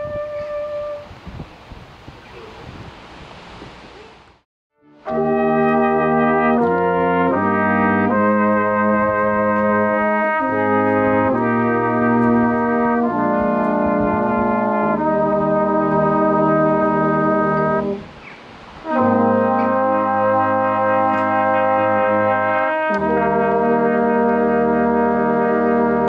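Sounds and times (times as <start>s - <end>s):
brass band playing slow chords: 0.0s - 1.1s, 4.8s - 18.2s, 18.8s - 26.0s.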